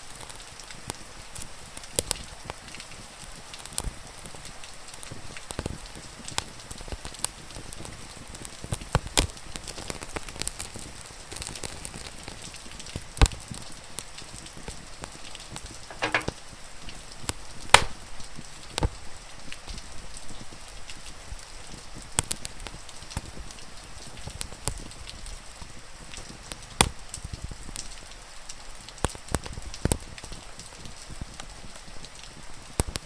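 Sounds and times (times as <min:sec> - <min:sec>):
rain pattering: 0:00.0 - 0:33.0
wood fire crackling: 0:00.1 - 0:28.2, 0:32.8 - 0:33.0.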